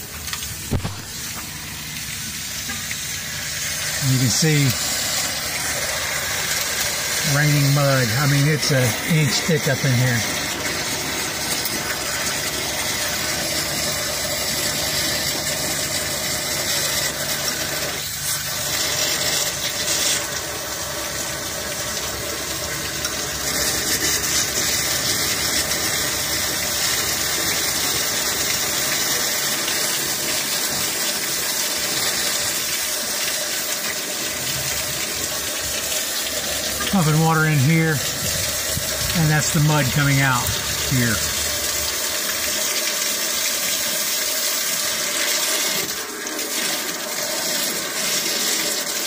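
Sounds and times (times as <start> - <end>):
muddy water gushing and splashing: 0.0 - 49.0.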